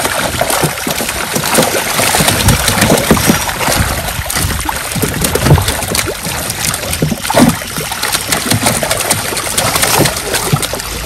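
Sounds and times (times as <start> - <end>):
fish thrashing and splashing: 0.0 - 11.0.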